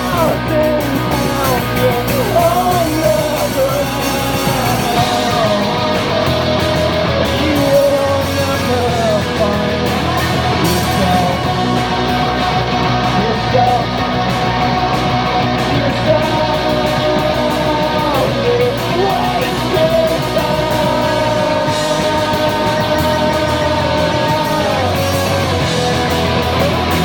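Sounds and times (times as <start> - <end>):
guitars: 0.0 - 27.0
live rock band playing: 0.0 - 27.0.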